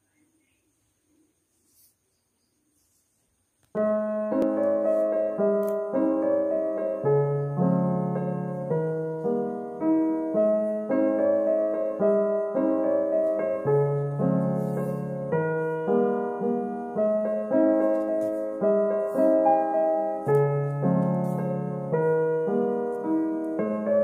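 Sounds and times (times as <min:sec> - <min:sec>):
soft piano music: 0:03.6 - 0:24.0.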